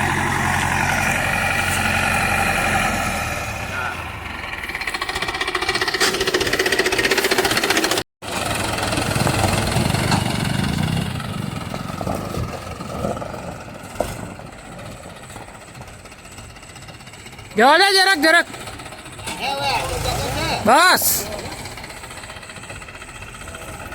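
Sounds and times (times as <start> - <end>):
tractor diesel engine knocking: 0.0 - 23.9.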